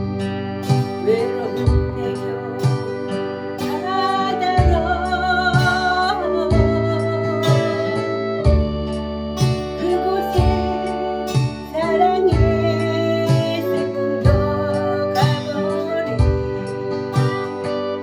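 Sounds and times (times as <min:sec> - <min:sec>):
soft low beat: 0:00.0 - 0:17.9
acoustic guitar: 0:00.0 - 0:18.0
woman singing a slow ballad: 0:00.2 - 0:18.0.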